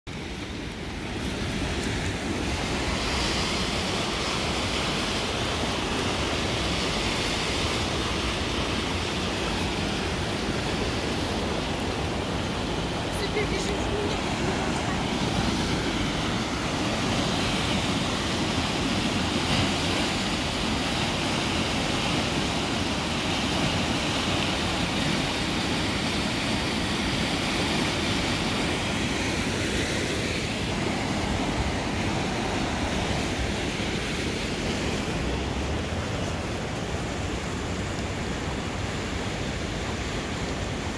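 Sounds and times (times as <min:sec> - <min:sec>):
river water rushing: 0:00.1 - 0:40.9.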